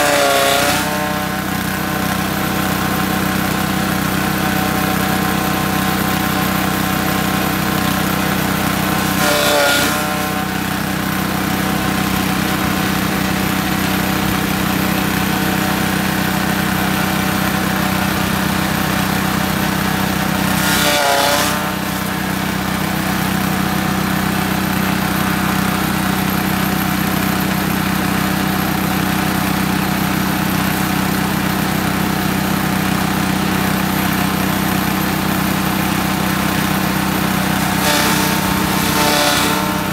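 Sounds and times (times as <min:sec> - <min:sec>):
small engine running a chopper: 0:00.0 - 0:39.9.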